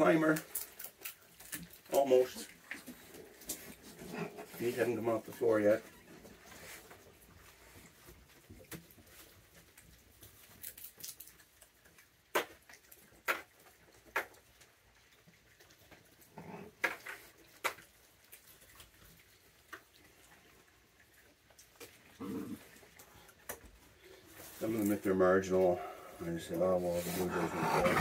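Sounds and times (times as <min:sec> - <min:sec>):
raccoons cracking peanuts: 0:00.0 - 0:26.0.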